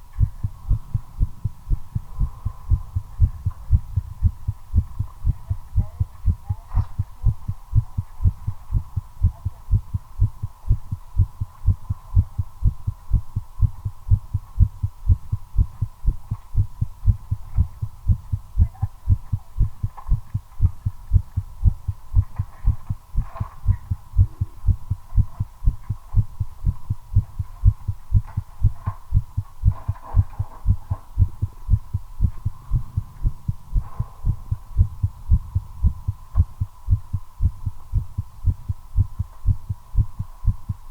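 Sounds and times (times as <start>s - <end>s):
faint high hum: 0.0s - 40.9s
fast heartbeat: 0.0s - 40.9s.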